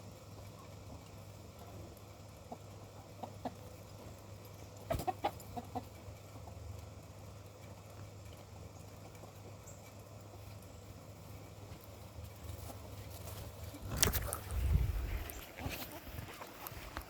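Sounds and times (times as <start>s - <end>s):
steady low hum: 0.0s - 17.0s
chickens clucking: 0.1s - 17.0s.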